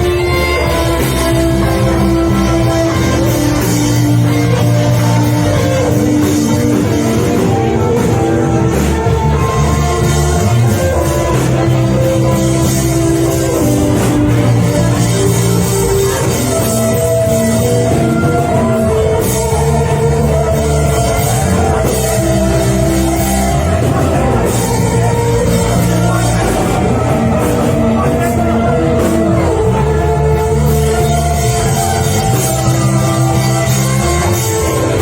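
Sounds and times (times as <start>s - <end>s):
drum kit: 0.0s - 35.0s
live band playing: 0.0s - 35.0s.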